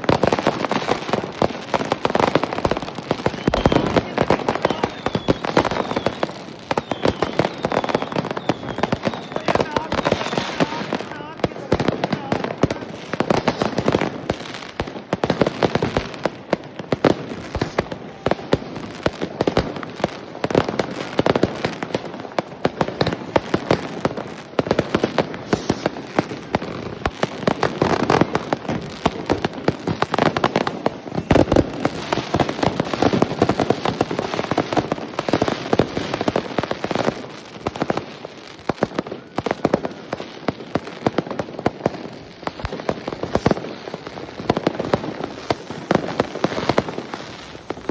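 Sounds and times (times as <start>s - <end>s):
fireworks and firecrackers banging: 0.0s - 47.9s.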